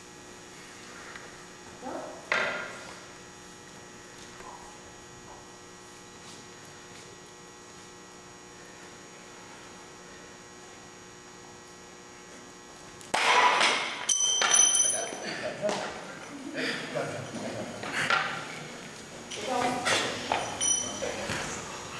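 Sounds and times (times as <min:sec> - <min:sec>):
electrical mains hum: 0:00.0 - 0:21.9.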